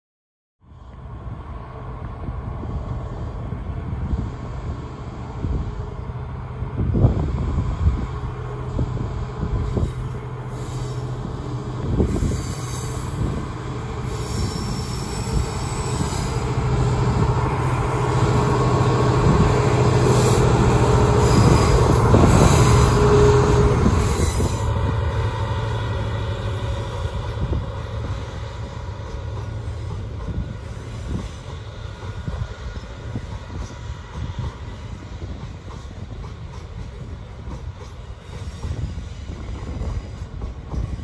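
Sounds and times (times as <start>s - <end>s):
diesel locomotive engine: 0.6s - 41.0s.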